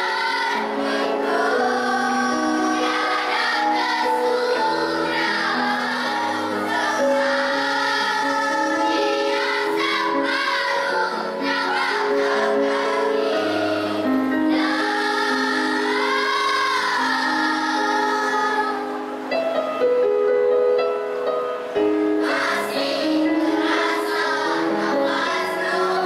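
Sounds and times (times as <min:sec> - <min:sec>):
children's choir singing: 0:00.0 - 0:19.7, 0:21.6 - 0:26.0.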